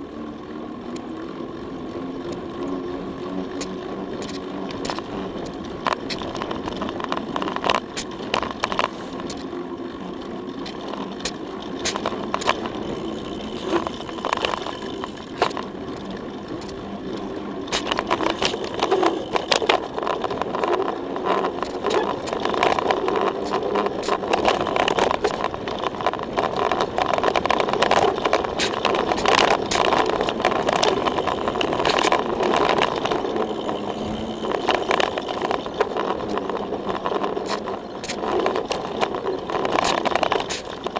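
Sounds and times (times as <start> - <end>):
tyre and wind noise: 0.0 - 40.9
bike knocks and rattles: 2.1 - 40.9.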